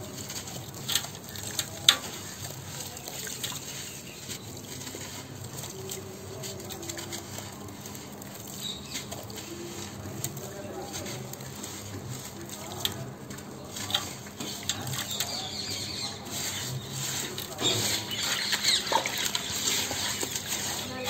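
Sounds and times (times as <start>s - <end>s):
crumbs pattering into water: 0.0s - 21.0s
hands crunching wet sand: 0.0s - 21.0s.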